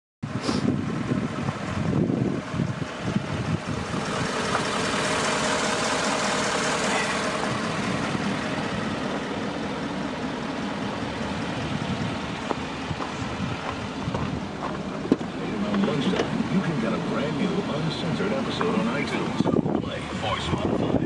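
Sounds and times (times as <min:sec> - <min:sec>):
truck engine idling: 0:00.2 - 0:21.0.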